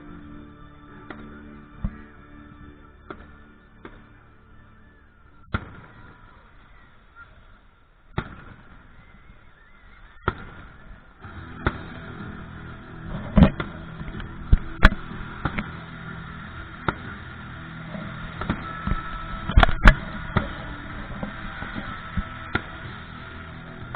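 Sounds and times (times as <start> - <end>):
fireworks exploding: 0.2 - 23.9.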